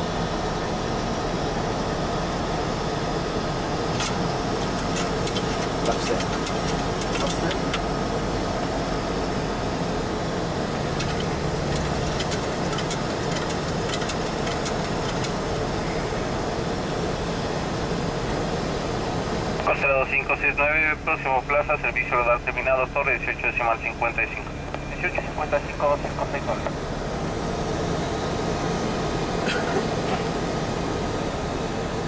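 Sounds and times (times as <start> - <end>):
aircraft engine running: 0.0 - 32.0.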